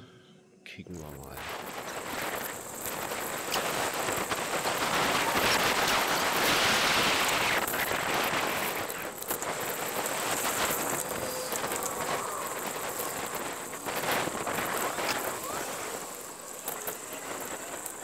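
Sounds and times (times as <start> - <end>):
bicycle tyres rolling on asphalt: 1.3 - 18.0
wind: 1.3 - 18.0.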